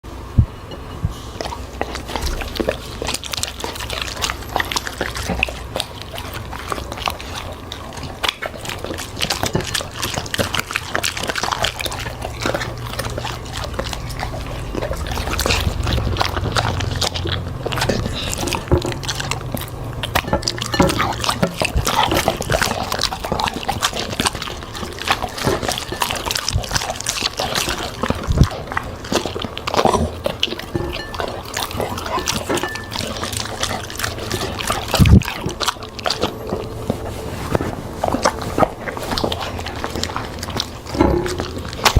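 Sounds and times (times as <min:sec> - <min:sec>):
dog chewing and slurping: 0:00.0 - 0:41.9.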